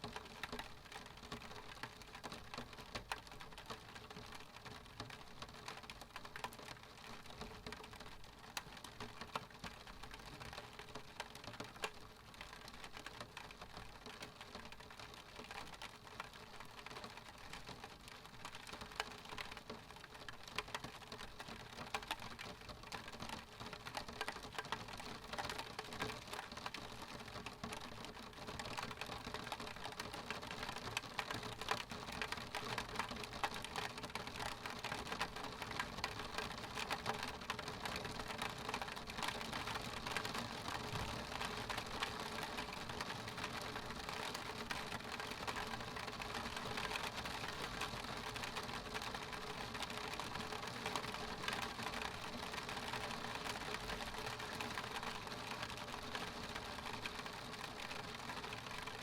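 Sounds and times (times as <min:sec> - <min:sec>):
rain pattering on window glass: 0:00.0 - 0:59.0.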